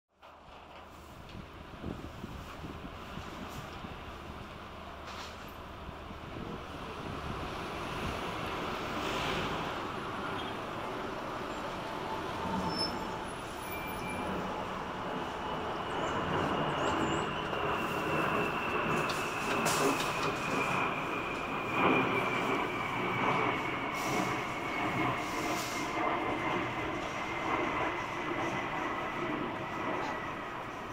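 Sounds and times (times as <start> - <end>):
high jet engine whine: 0.2 - 30.9
jet airliner roar: 0.2 - 30.9.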